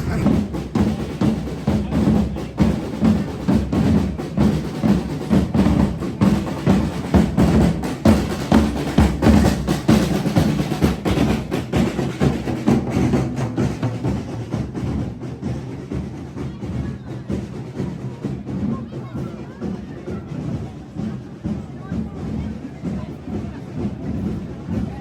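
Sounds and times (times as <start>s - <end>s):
drum band marching beat: 0.0s - 25.0s.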